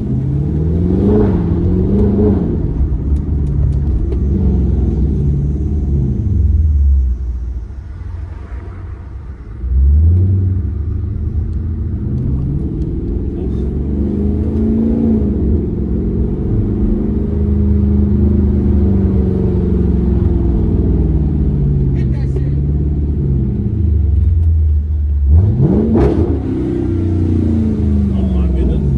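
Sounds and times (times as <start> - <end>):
car engine and exhaust: 0.0 - 28.9.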